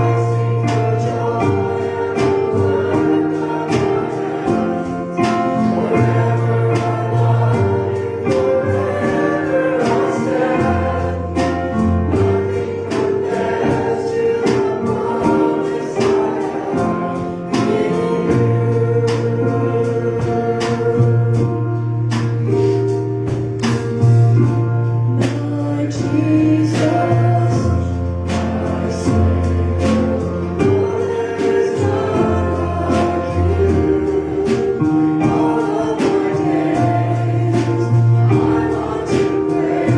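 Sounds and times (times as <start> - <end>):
band playing: 0.0 - 39.9
choir and congregation singing: 0.0 - 39.9.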